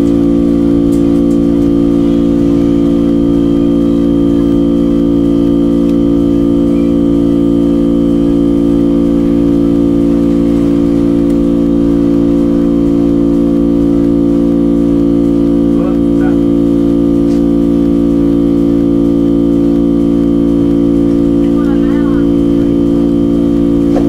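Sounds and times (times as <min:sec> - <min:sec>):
low droning held tones: 0:00.0 - 0:24.0.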